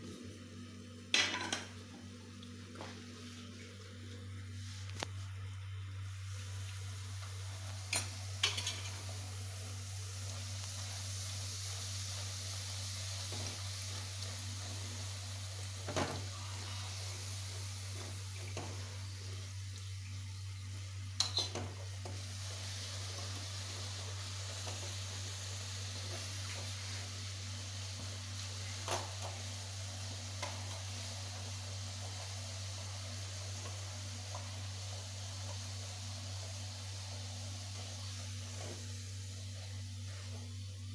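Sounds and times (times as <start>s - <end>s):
food sizzling in a pan: 0.0s - 2.2s, 2.8s - 40.9s.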